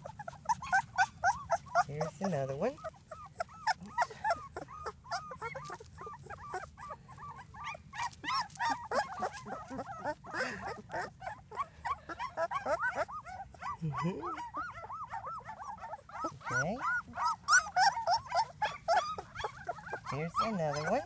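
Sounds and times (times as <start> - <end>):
puppies whimpering and squealing: 0.0 - 21.0.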